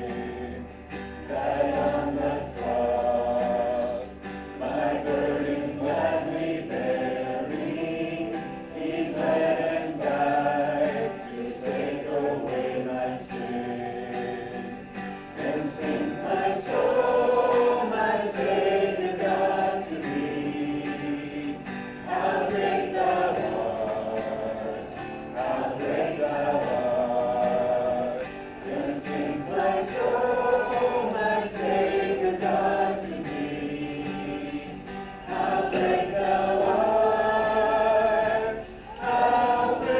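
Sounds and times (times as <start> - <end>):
group singing worship song: 0.0 - 39.9.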